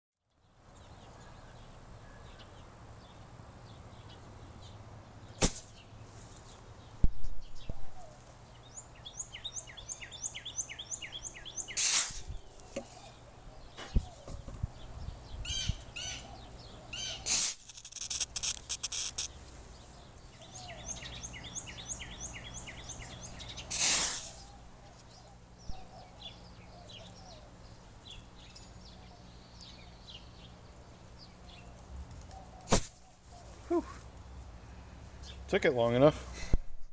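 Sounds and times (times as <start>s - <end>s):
songbirds chirping: 0.2s - 36.4s.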